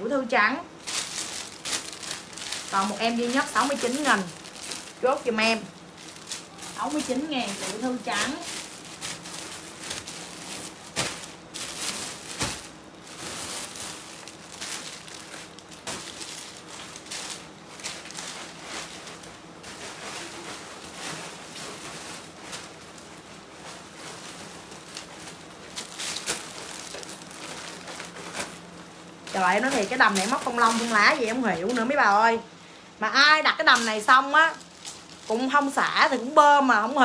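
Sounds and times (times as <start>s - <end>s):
faint steady hum: 0.0s - 37.0s
plastic bags rustling: 0.0s - 37.0s.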